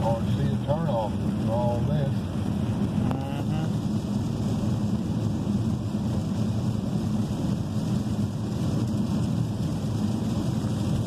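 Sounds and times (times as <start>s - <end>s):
rain on car: 0.0s - 11.0s
tyres on wet road: 0.0s - 11.0s.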